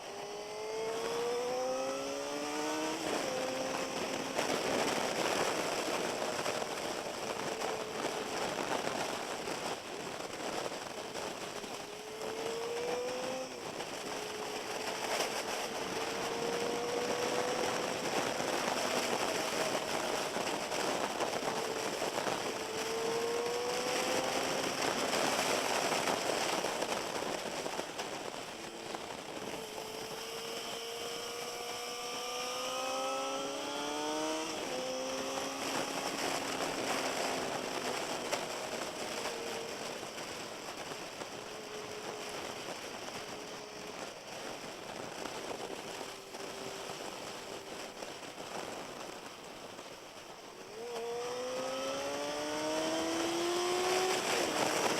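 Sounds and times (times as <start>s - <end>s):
motorcycle engines accelerating: 0.0s - 49.3s, 50.6s - 54.9s
steady rushing noise: 0.0s - 54.9s.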